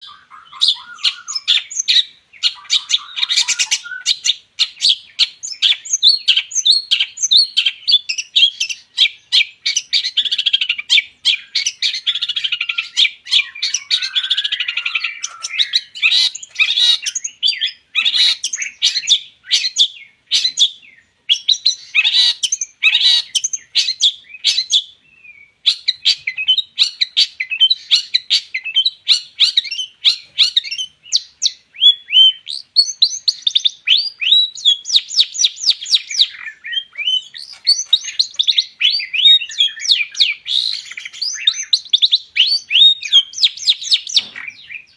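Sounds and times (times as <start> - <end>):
bird song chirps and whistles: 0.0 - 44.9.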